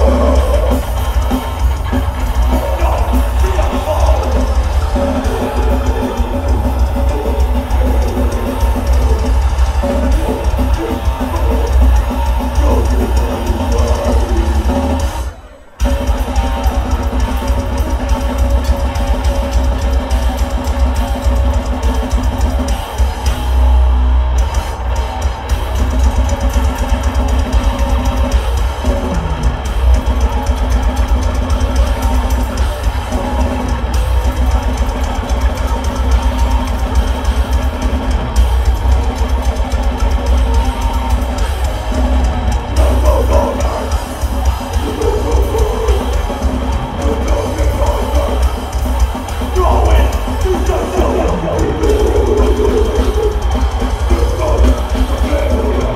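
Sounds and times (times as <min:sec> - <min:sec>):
bass guitar: 0:00.0 - 0:55.9
distorted electric guitars: 0:00.0 - 0:55.9
pounding drum kit: 0:00.0 - 0:55.9.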